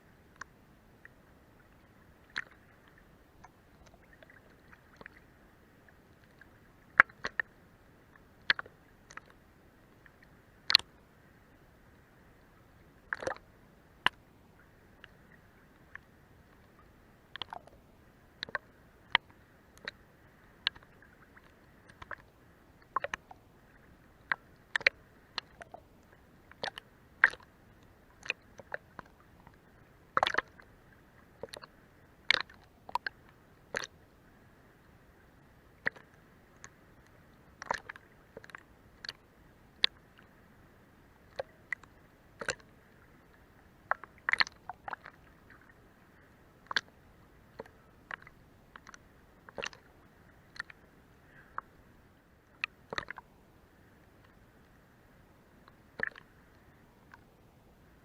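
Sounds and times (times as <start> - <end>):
faint steady hiss: 0.0 - 58.0
water lapping against boat hull: 0.3 - 54.8, 55.5 - 58.0.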